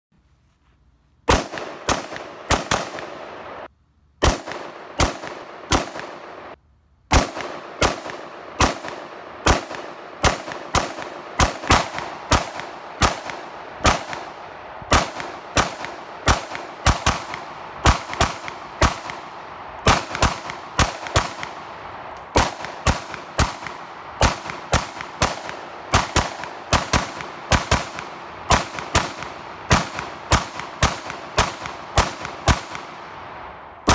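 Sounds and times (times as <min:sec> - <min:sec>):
gunshot echo: 0:01.3 - 0:33.9
rifle firing rapid shots: 0:01.3 - 0:33.9.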